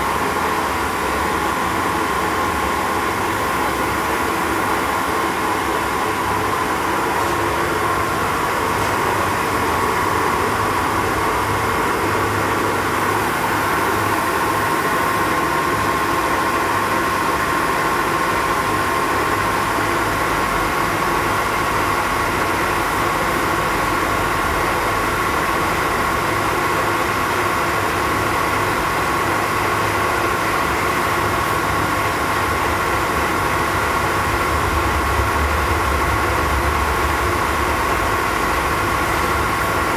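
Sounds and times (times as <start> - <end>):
milling machine hum and whine: 0.0 - 39.9.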